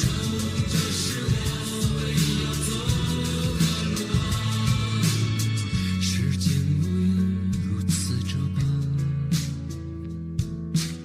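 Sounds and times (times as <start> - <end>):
instrumental pop music: 0.0 - 11.0.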